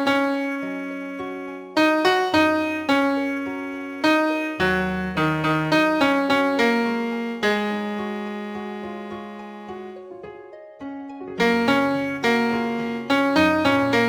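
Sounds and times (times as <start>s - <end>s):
piano melody over bass notes: 0.0s - 14.0s.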